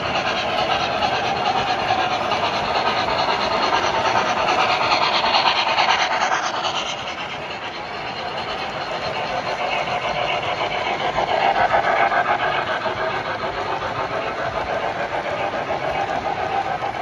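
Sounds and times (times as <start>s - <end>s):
model steam locomotive chuffing: 0.0s - 17.0s
wheels rumbling on rails: 0.0s - 17.0s.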